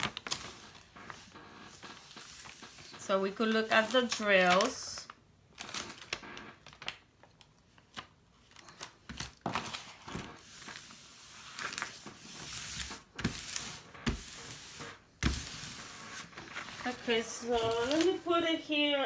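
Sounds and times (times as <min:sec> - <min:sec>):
packaging crinkling and rustling: 0:00.0 - 0:18.6.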